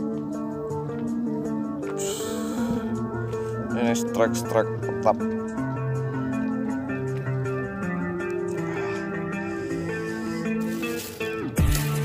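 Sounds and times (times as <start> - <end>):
heavy bass beat with ticks: 0.0 - 3.9, 4.5 - 12.0
melodic background music: 0.0 - 12.0.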